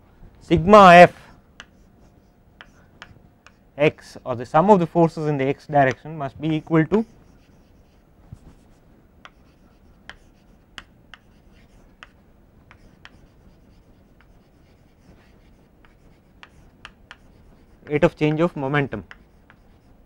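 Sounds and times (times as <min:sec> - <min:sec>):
chalk writing on chalkboard: 0:01.2 - 0:03.6, 0:05.9 - 0:20.0.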